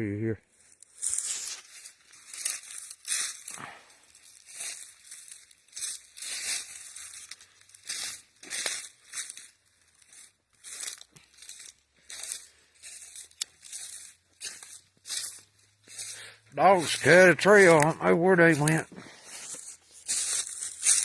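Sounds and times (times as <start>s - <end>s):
footsteps crunching dry leaves: 0.5s - 21.0s.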